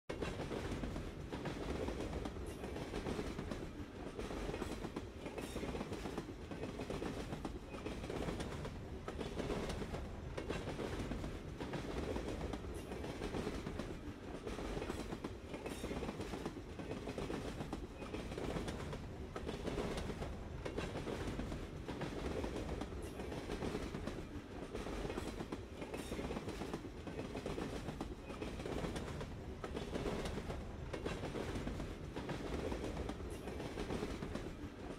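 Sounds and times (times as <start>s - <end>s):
train rumbling along rails: 0.1s - 34.9s.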